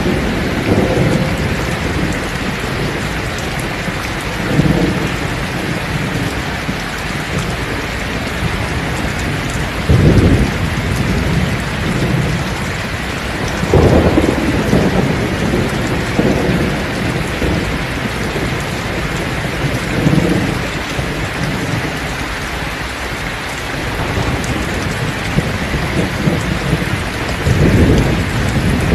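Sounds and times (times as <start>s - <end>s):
heavy rain pouring: 0.0s - 28.9s
thunder rumbling: 0.0s - 28.9s.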